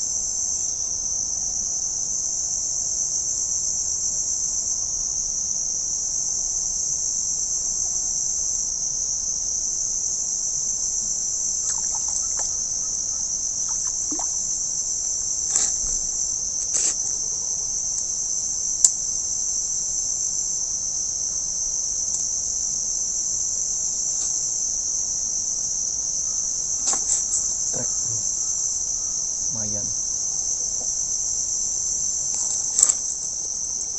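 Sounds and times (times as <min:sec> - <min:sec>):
crickets chorus: 0:00.0 - 0:33.9.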